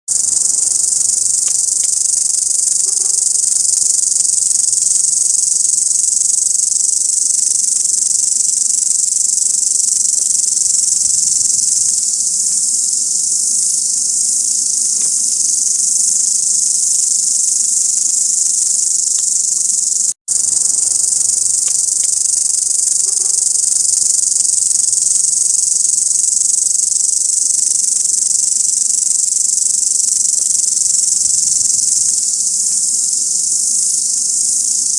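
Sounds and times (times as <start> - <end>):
grasshoppers stridulating: 0.1 - 34.9.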